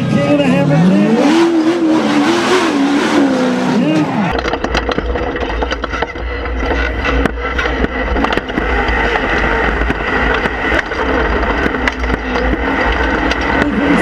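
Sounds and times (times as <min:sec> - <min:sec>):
engine running under load: 0:00.0 - 0:14.0.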